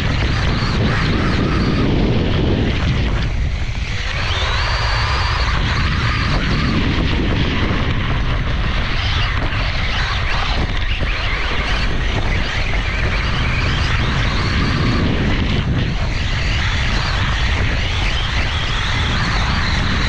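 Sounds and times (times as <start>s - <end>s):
electric motor whine: 0.0s - 20.0s
wind rumble on microphone: 0.0s - 20.0s.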